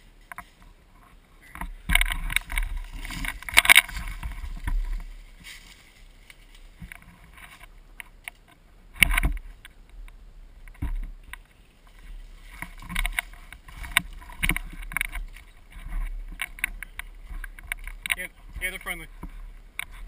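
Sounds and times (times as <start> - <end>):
rustling and knocking: 0.0 - 9.8, 10.6 - 20.0.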